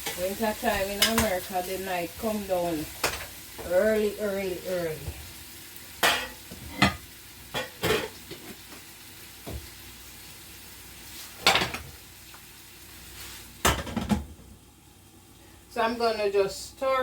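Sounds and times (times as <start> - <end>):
faint sizzle of cooking: 0.0 - 17.0.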